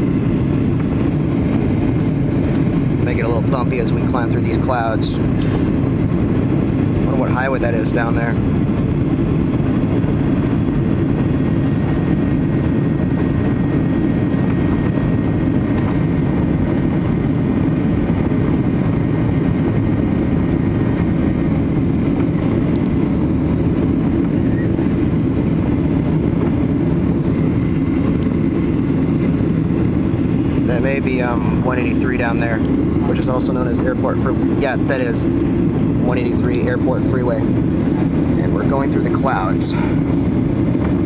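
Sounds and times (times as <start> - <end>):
jet engines low rumble: 0.0 - 41.0.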